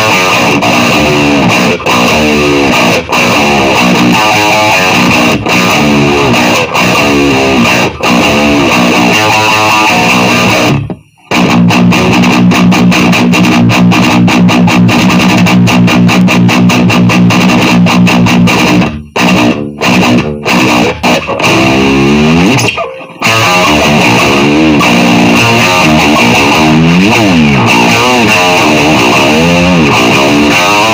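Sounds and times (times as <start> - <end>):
distorted electric guitar riffs: 0.0 - 30.9.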